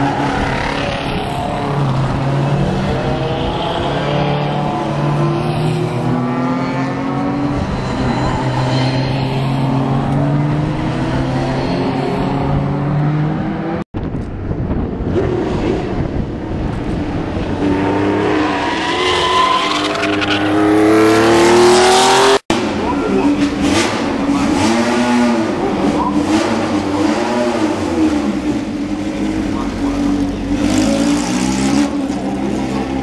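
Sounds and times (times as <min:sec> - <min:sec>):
racing car engines passing: 0:00.0 - 0:13.8, 0:15.0 - 0:33.0.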